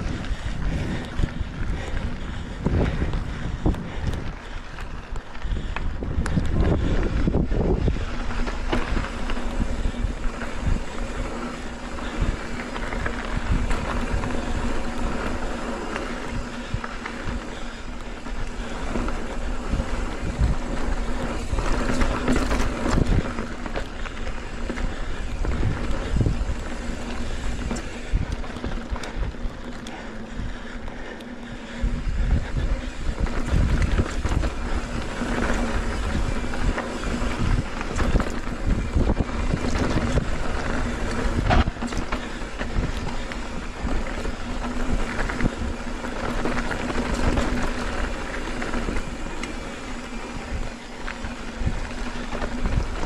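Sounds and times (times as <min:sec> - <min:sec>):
bike tyre noise on dirt: 0:00.0 - 0:53.0
wind buffeting microphone: 0:00.0 - 0:53.0.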